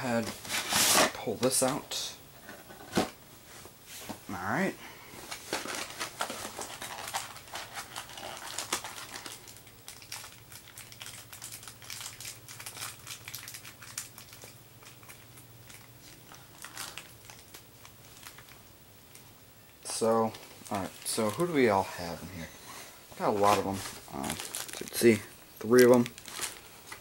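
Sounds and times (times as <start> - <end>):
packaging rustling and crinkling: 5.2 - 27.0.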